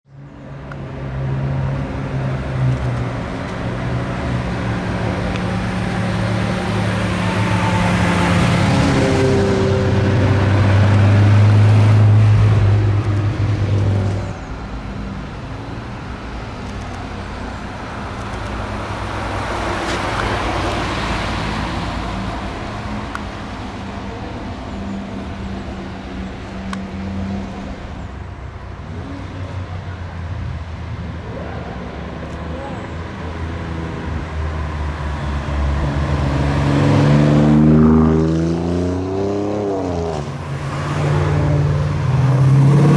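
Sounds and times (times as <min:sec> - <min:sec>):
sports car engines driving past: 0:00.2 - 0:42.9.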